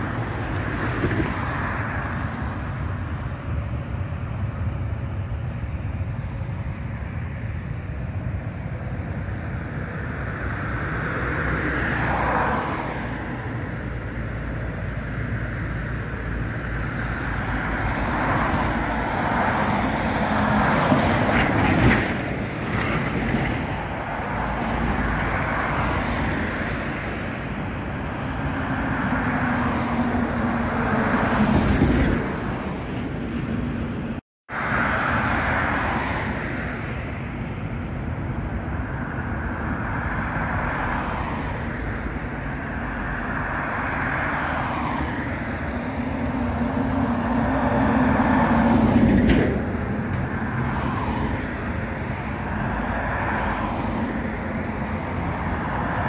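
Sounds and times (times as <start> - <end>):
cars passing close by: 0.0 - 56.0.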